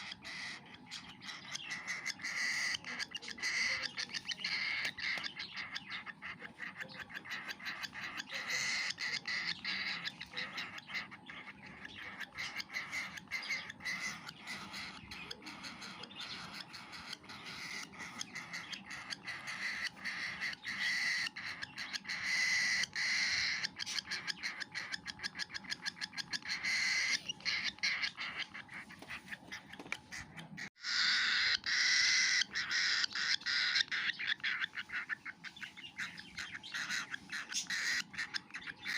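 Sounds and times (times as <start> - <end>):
baby cockatiel begging calls: 0.0 - 38.9.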